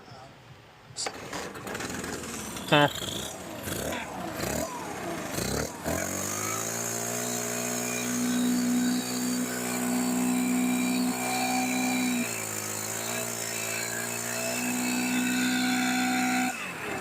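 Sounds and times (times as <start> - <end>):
leaf blower engine starting: 1.0 - 17.0.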